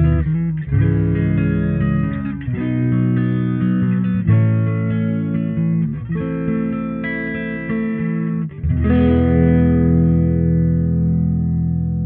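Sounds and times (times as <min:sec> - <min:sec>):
guitar playing chords: 0:00.0 - 0:12.0.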